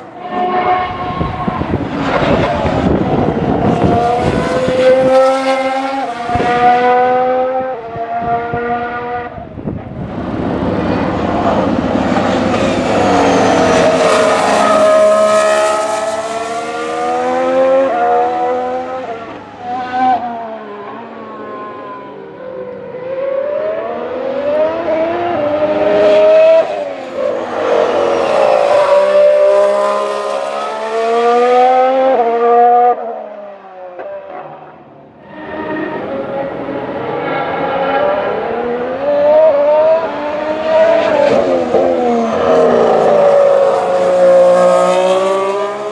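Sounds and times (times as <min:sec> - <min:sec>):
racing car engine revving: 0:00.0 - 0:21.8, 0:22.4 - 0:45.9.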